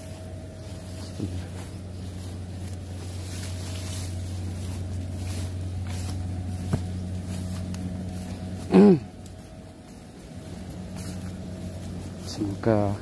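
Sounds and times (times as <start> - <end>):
footsteps through tall grass: 0.0 - 13.0
steady low hum: 0.0 - 13.0.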